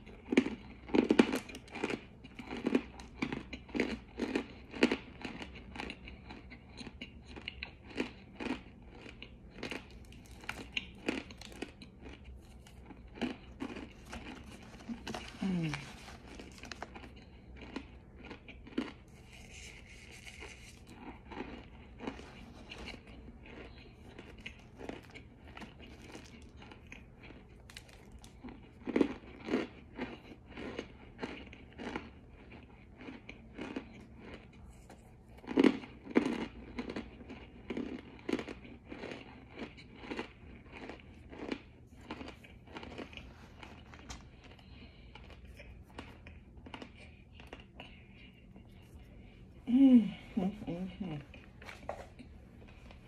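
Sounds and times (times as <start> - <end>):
mouth crunching and chewing: 0.0 - 53.0.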